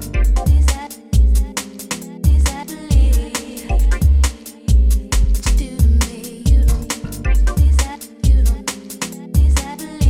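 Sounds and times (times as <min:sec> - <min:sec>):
hip hop music with heavy bass: 0:00.0 - 0:10.0.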